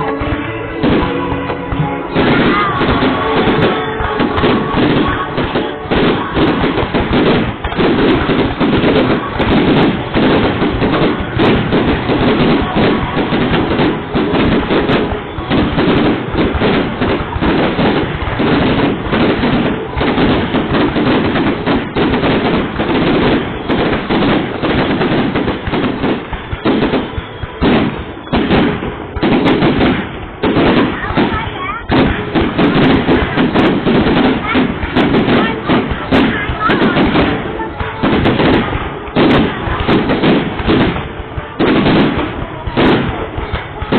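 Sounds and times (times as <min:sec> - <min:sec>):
fireworks barrage of bangs: 0:00.0 - 0:43.9.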